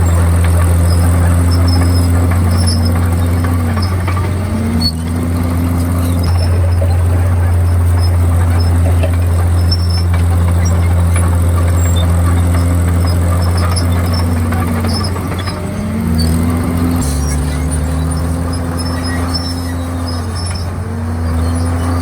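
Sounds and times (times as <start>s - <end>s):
bulldozer diesel engine running: 0.0s - 22.0s
faint high squeaks: 0.0s - 22.0s.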